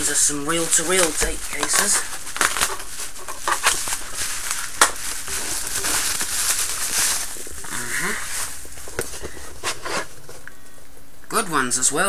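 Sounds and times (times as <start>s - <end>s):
packaging rustling: 0.0s - 10.9s.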